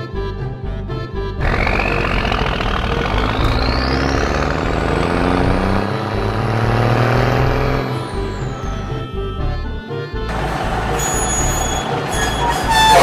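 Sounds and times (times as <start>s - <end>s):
background music: 0.0s - 13.0s
cartoon truck engine with rising whine: 1.2s - 13.0s.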